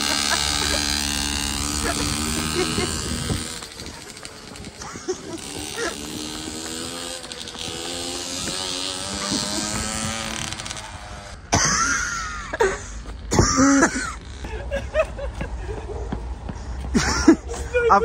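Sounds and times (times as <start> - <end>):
small motorcycle engine buzzing: 0.0 - 15.0.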